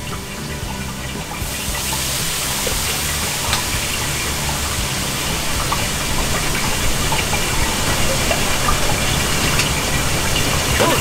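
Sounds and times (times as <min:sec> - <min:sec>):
food sizzling: 0:00.0 - 0:11.0
gas burner rushing: 0:00.0 - 0:11.0.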